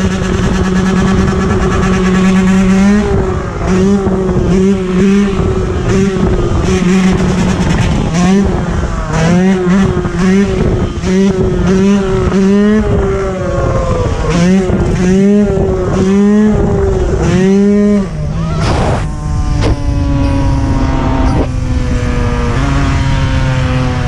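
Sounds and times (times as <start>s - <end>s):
dirt bike engine revving: 0.0s - 24.0s
wind and road noise: 0.0s - 24.0s.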